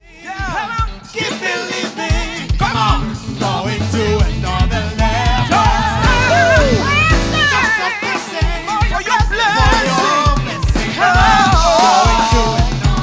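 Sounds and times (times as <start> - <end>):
lead voice singing with vibrato: 0.0 - 13.0
gospel band playing: 0.1 - 13.0.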